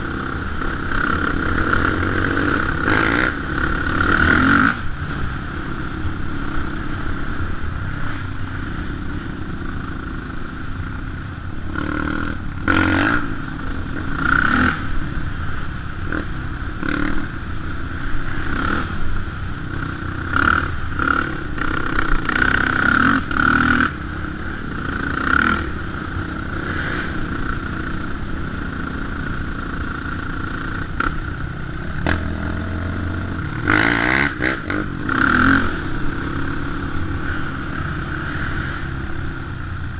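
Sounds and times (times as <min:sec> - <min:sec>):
quad bike engine revving: 0:00.0 - 0:07.4, 0:08.1 - 0:15.2, 0:16.0 - 0:17.4, 0:18.2 - 0:39.6.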